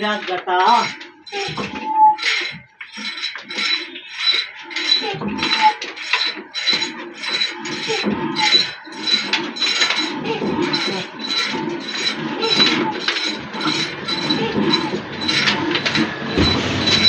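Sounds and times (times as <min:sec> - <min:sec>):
metallic clinking from diesel engine: 0:00.0 - 0:17.0.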